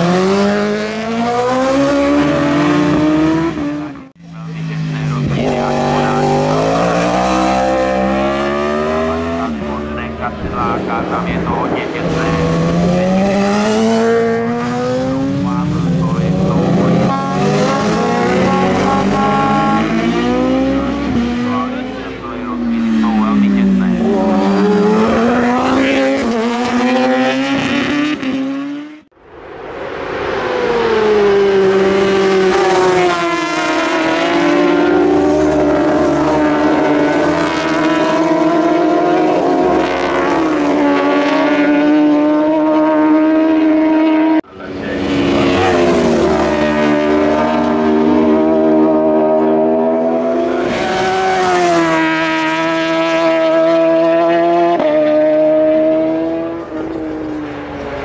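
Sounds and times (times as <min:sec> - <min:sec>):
motorcycle engine at high revs: 0:00.0 - 0:29.1, 0:30.9 - 0:58.0.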